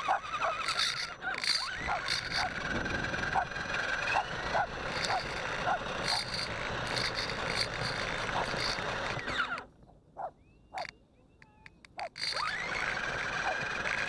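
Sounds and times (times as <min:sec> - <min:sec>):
rc car motor and drivetrain running: 0:00.0 - 0:09.7, 0:12.0 - 0:14.0.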